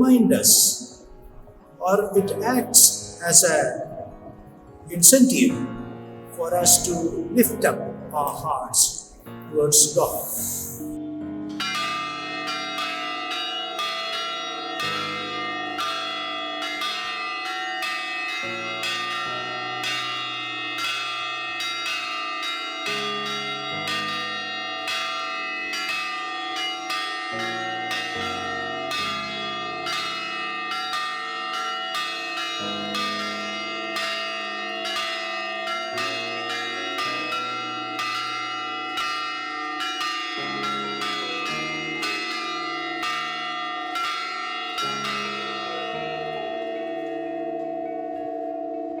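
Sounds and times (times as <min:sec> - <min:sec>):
church bells ringing: 0:00.0 - 0:49.0.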